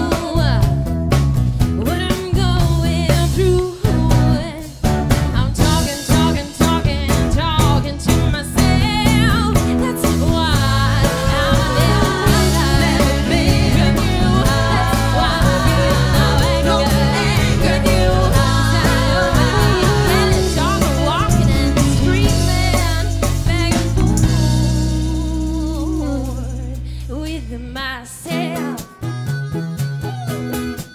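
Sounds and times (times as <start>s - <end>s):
woman singing: 0.0s - 1.0s, 1.8s - 30.9s
blues band playing: 0.0s - 30.9s.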